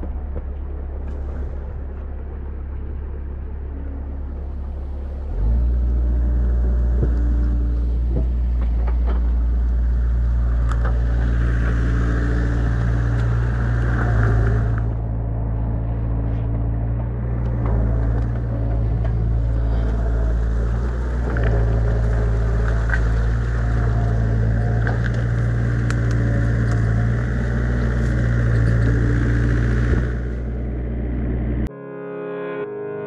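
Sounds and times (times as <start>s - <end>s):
excavator diesel engine humming: 0.0s - 31.7s
steady low rumble: 0.0s - 31.7s.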